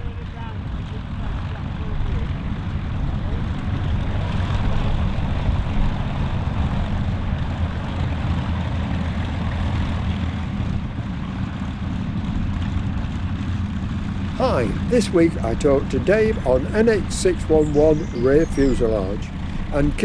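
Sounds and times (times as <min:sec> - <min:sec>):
propeller aircraft engine drone: 0:00.5 - 0:20.0.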